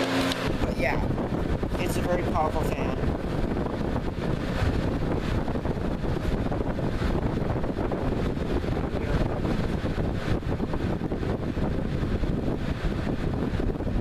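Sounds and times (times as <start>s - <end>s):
box fan blowing hard: 0.0s - 14.0s
wind buffeting microphone: 0.0s - 14.0s.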